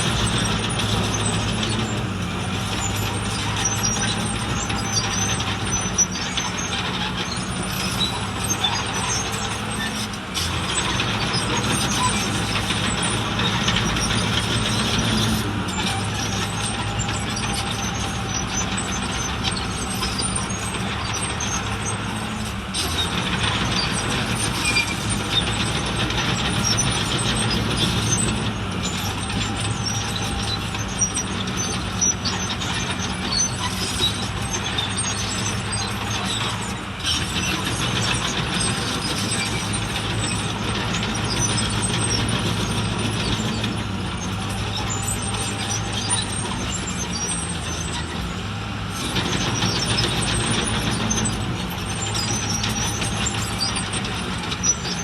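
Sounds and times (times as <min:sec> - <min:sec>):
diesel engine running: 0:00.0 - 0:55.0
high-pitched squeaks: 0:02.6 - 0:48.3.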